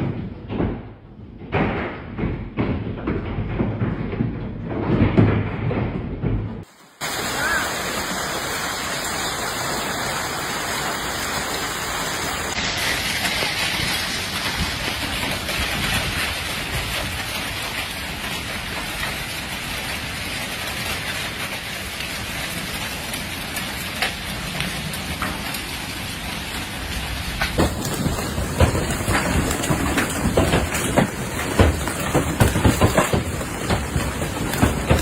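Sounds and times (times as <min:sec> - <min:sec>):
heavy rain downpour: 0:06.6 - 0:35.0.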